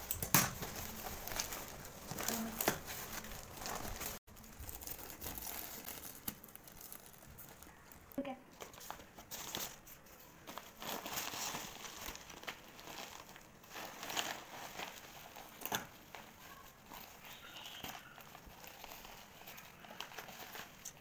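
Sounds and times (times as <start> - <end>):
bubble wrap crinkling: 0.0 - 21.0.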